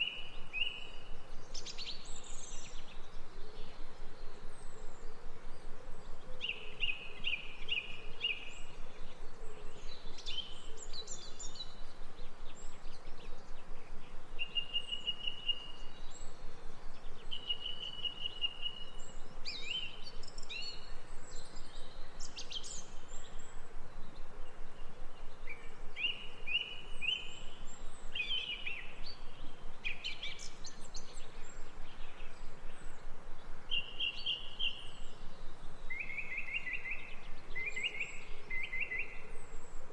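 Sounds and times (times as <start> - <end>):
songbirds singing: 0.0 - 39.9
steady background hiss: 0.0 - 39.9.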